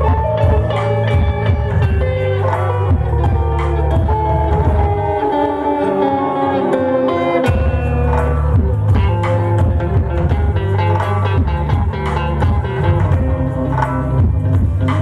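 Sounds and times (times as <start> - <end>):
electric guitar lines: 0.0 - 15.0
rock band playing live: 0.0 - 15.0.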